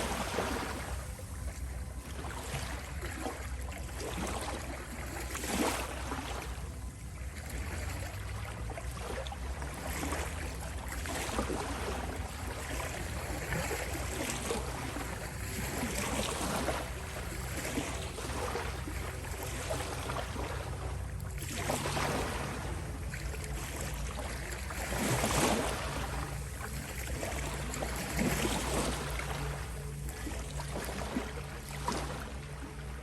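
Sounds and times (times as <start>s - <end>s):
ocean waves washing ashore: 0.0s - 33.0s
steady low drone: 0.0s - 33.0s.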